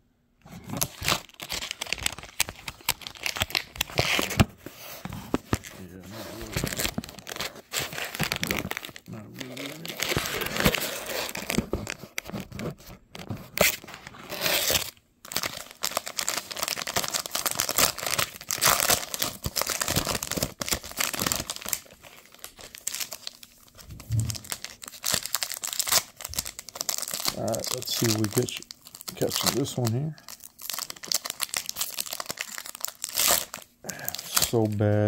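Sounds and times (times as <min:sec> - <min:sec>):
plastic wrappers crinkling and tearing: 0:00.6 - 0:35.0.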